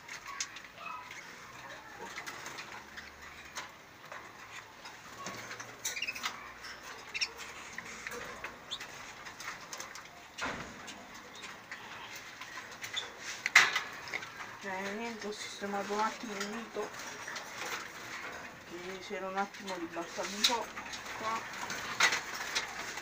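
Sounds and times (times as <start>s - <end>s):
cage wire clicking and rattling: 0.0s - 23.0s
canaries calling: 0.0s - 23.0s.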